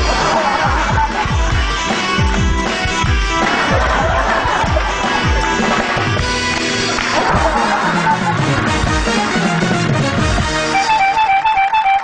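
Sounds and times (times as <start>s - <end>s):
two-note rocking melody: 0.0s - 12.0s.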